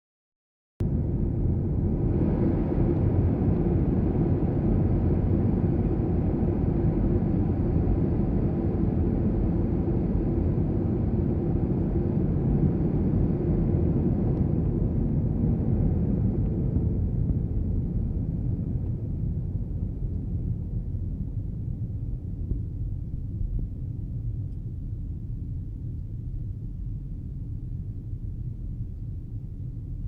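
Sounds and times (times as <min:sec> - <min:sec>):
airliner cabin engine rumble: 0:00.8 - 0:30.0.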